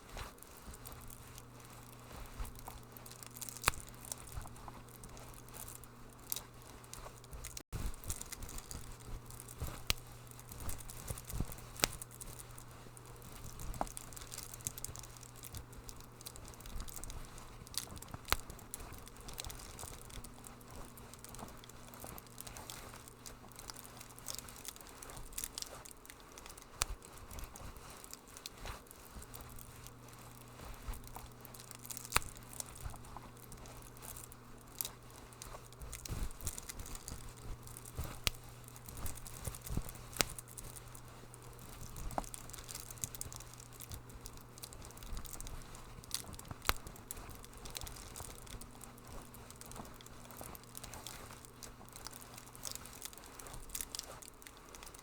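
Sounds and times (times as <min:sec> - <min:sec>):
low steady hum: 0:00.0 - 0:55.0
wood fire crackling: 0:00.0 - 0:55.0.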